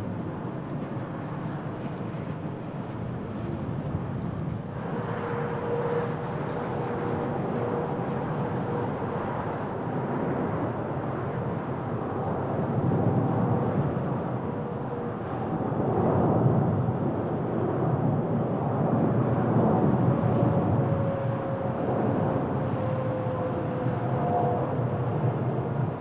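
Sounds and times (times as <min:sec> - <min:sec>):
jet engine whine: 0:00.0 - 0:26.0
jet engines rumbling: 0:00.1 - 0:26.0.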